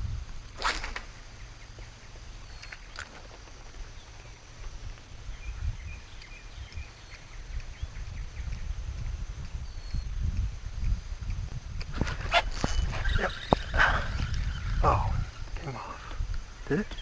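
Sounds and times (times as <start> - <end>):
wind rumbling on microphone: 0.0 - 2.6, 3.6 - 17.0.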